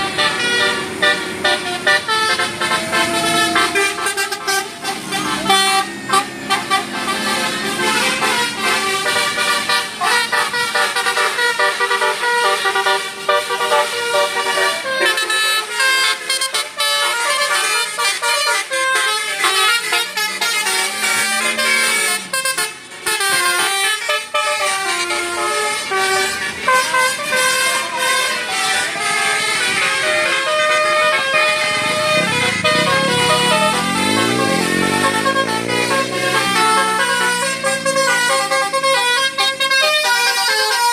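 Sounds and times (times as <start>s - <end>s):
multi-tone bus horn tune: 0.0s - 40.9s.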